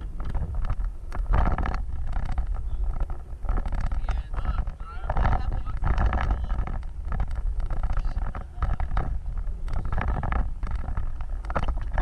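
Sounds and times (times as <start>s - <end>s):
off-road vehicle rumble: 0.0s - 12.0s
wind buffeting microphone: 0.0s - 12.0s.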